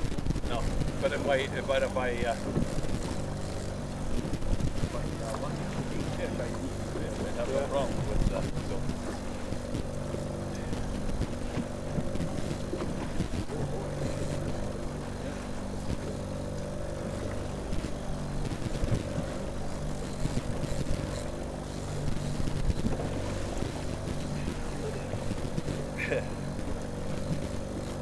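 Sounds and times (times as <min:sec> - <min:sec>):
outboard motor droning: 0:00.0 - 0:28.0
water noise: 0:00.0 - 0:28.0
wind: 0:00.0 - 0:28.0.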